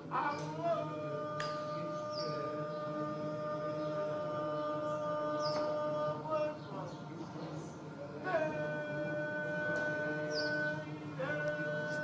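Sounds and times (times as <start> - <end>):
man chanting: 0.0 - 6.9, 8.2 - 12.0.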